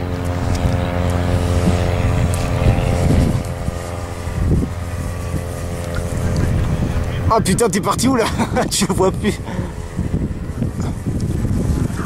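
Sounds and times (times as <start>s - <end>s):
model plane motor humming: 0.0s - 12.0s.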